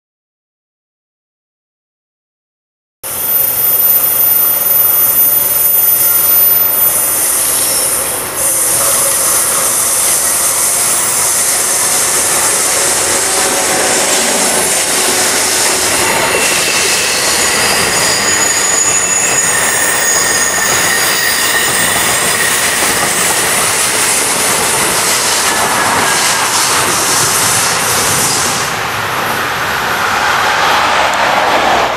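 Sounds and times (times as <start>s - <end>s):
wheels squealing: 3.1s - 28.7s
train wheels rushing on rail: 3.1s - 31.9s.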